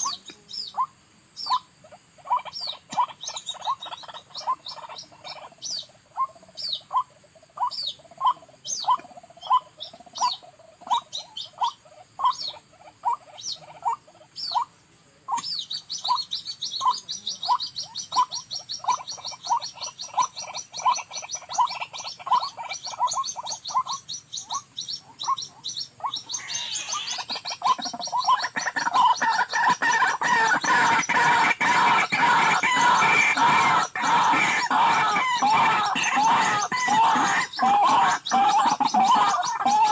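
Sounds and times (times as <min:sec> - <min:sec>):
waterhens calling: 0:00.0 - 0:14.7, 0:15.3 - 0:39.9.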